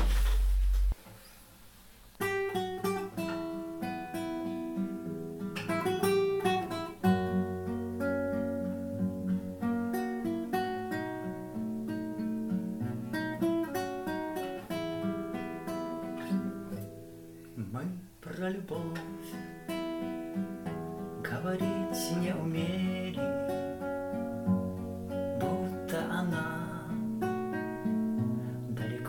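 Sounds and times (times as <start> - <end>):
acoustic guitar playing: 0.0 - 1.3, 2.1 - 29.0.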